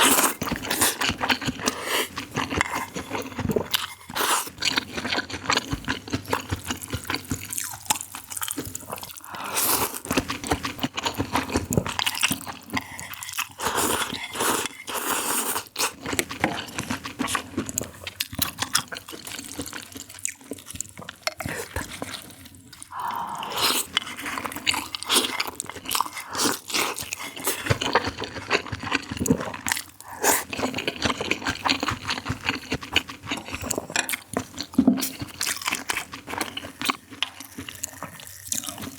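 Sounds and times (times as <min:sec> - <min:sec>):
person slurping and chewing: 0:00.0 - 0:38.9.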